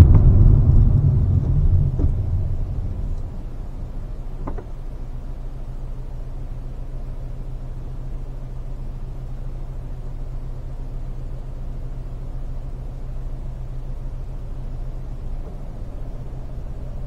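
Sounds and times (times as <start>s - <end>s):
car engine drone: 0.0s - 17.0s
road rumble: 0.0s - 17.0s.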